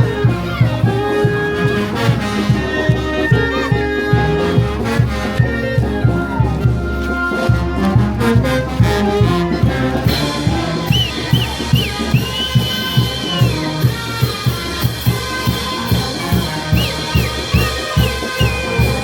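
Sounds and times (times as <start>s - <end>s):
brass instruments playing: 0.0s - 19.0s
steady drum beat: 0.0s - 19.0s.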